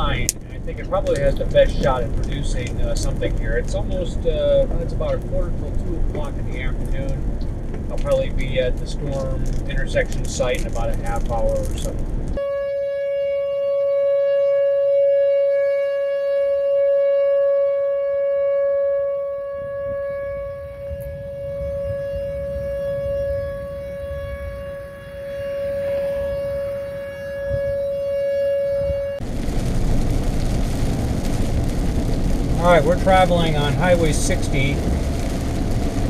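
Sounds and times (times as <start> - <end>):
tornado warning siren: 0.0 - 9.6, 10.2 - 36.0.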